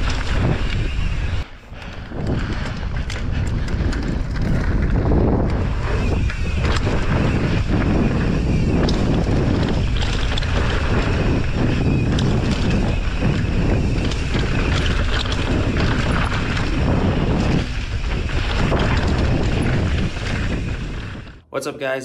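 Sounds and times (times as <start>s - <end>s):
bike knocks and rattles: 0.0s - 21.3s
wind buffeting microphone: 0.0s - 21.5s.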